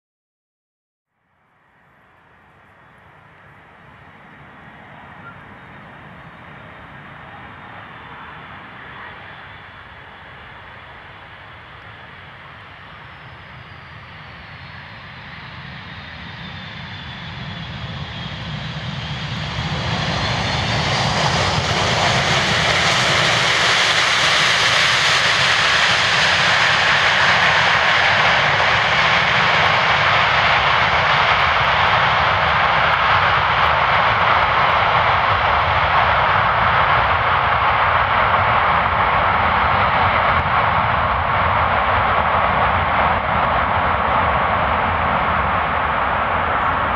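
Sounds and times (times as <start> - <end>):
jet engines roaring: 2.4 - 46.9
falling jet whine: 4.0 - 46.9.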